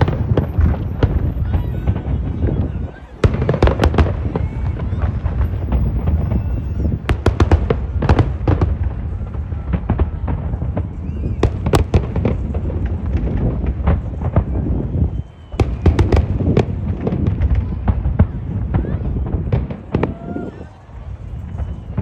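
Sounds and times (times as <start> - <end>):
fireworks bangs and crackles: 0.0 - 22.0
low rumble of fireworks: 0.0 - 22.0.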